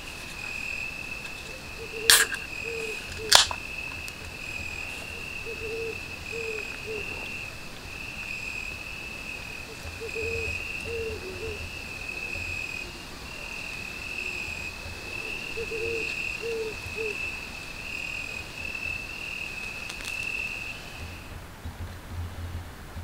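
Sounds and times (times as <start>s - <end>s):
distant animal calls: 0.0s - 21.3s
crickets trilling: 0.0s - 21.4s.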